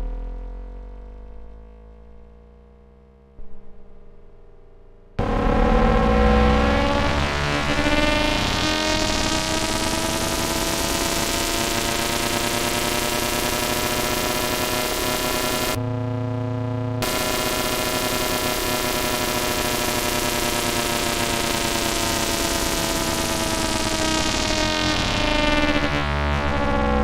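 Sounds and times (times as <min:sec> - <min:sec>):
buzzy synthesizer tone: 0:05.2 - 0:27.0.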